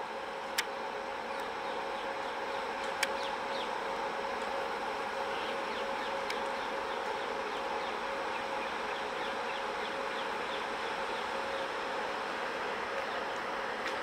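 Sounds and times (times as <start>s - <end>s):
electric locomotive hum: 0.0s - 14.0s.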